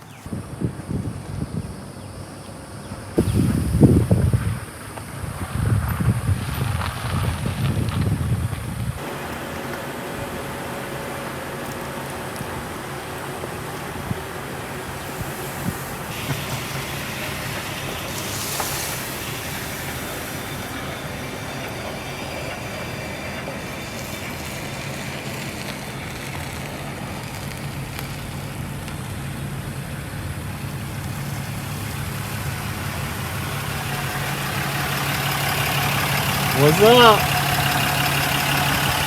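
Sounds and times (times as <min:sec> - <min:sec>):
rumbling grinding noise: 0:00.0 - 0:39.0
vehicle engine running: 0:00.0 - 0:39.0.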